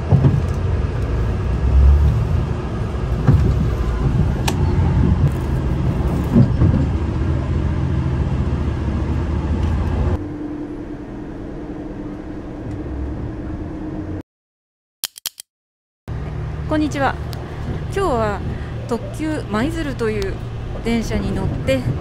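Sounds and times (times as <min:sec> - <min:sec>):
railcar cabin low rumble: 0:00.0 - 0:14.2, 0:16.1 - 0:22.0.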